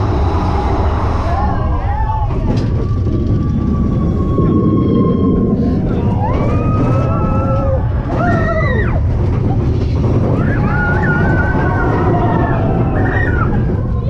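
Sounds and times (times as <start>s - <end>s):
riders whooping: 0.0s - 14.0s
roller coaster rumbling on track: 0.0s - 14.0s
wind on camera: 0.0s - 14.0s.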